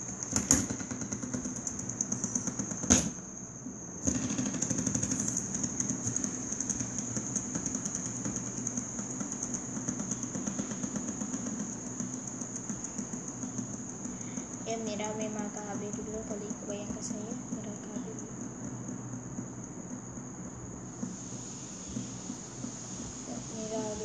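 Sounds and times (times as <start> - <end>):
fidget spinners whirring: 0.0 - 24.0.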